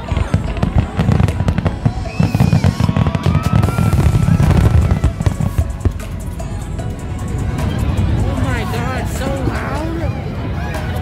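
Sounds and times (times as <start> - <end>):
fireworks booming and crackling: 0.0 - 9.8.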